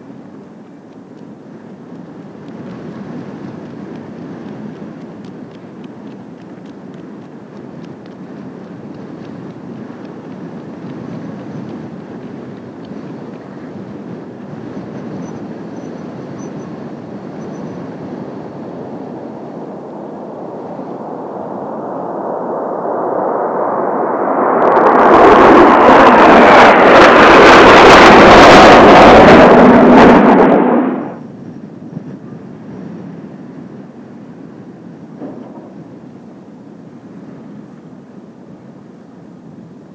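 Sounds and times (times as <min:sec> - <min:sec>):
jet aircraft flying over: 0:00.0 - 0:39.9.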